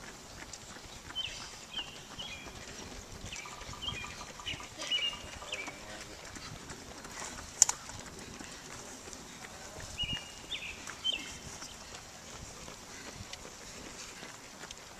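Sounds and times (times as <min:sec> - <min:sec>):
runners footsteps on asphalt: 0:00.0 - 0:14.9.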